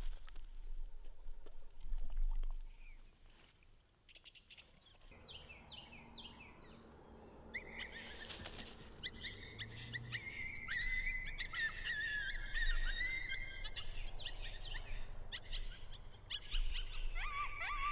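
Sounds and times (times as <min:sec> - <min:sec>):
insects trilling: 0:00.0 - 0:17.9.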